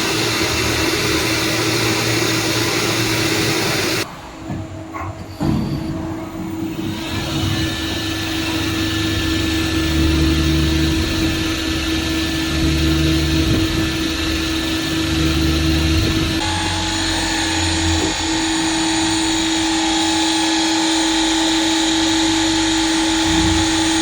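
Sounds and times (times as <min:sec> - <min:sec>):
lathe machine hum: 0:00.0 - 0:04.1, 0:06.6 - 0:24.0.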